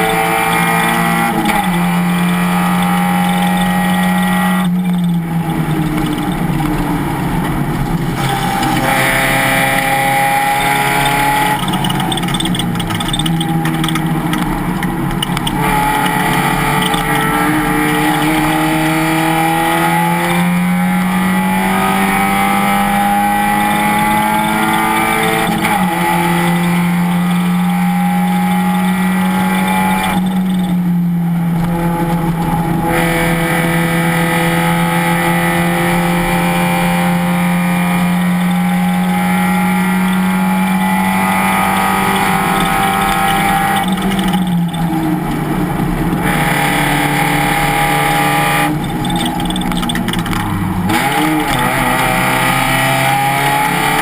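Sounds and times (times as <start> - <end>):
race car engine under throttle: 0.0 - 54.0.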